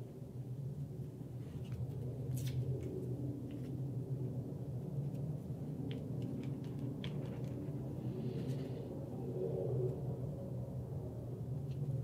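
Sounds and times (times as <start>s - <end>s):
low hum of room noise: 0.0s - 12.0s.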